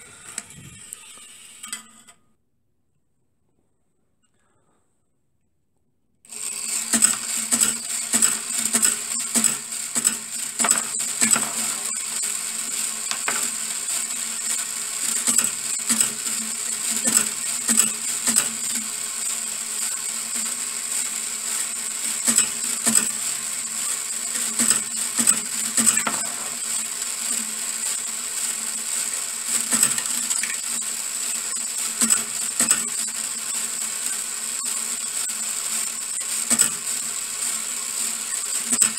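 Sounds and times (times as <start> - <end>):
small electric motor whining: 0.0 - 2.1, 6.3 - 38.9.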